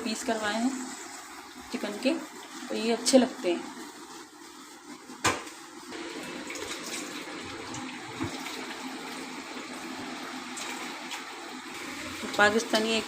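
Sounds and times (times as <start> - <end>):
chicken sizzling in hot fat: 0.0 - 13.0.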